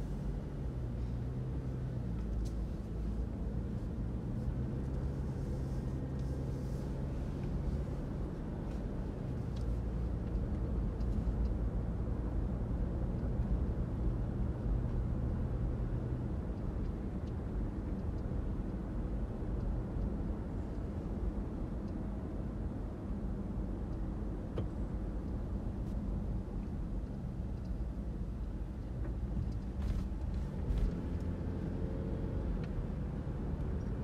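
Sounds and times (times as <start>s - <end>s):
car engine hum: 0.0s - 34.0s
road rumble: 0.0s - 34.0s.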